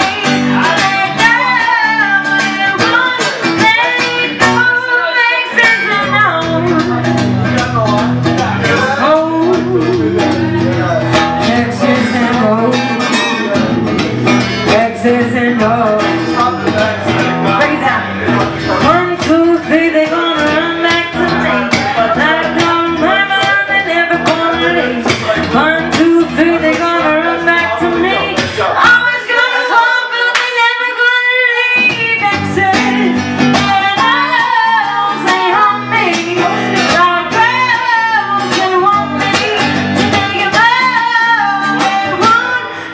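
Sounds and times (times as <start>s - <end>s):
woman singing into microphone: 0.0s - 8.1s, 8.7s - 42.9s
acoustic guitar: 0.0s - 42.9s.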